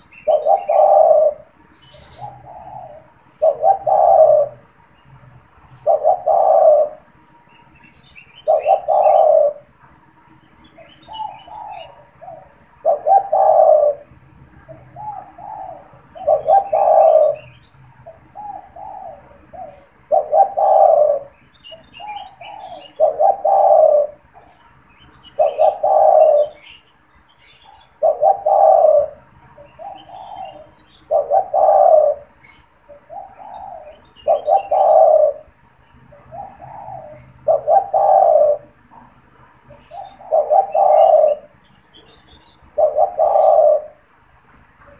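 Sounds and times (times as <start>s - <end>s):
dove cooing: 0.0s - 4.8s, 5.6s - 9.8s, 10.7s - 44.1s
small birds chirping faintly: 0.0s - 44.9s.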